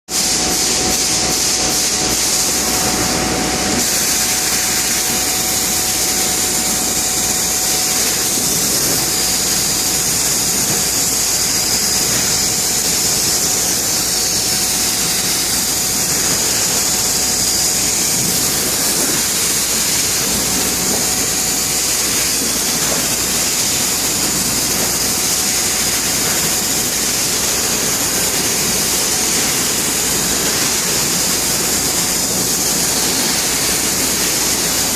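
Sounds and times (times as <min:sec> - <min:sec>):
laser cutting machine hissing: 0:00.1 - 0:34.9.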